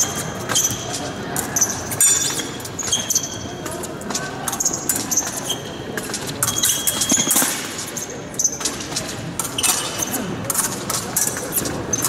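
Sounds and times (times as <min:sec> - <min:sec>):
fencing blades clinking: 0:00.0 - 0:12.0
shoes squeaking and stamping: 0:00.0 - 0:12.0.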